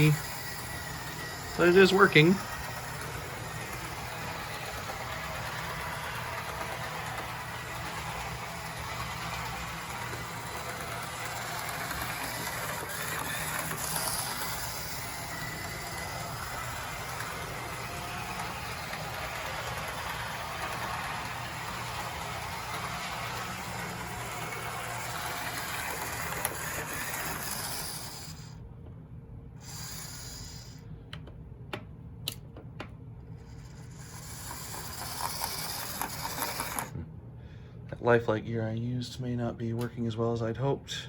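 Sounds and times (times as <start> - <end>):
model train motor running: 0.0 - 28.6, 29.6 - 30.9, 33.3 - 37.0.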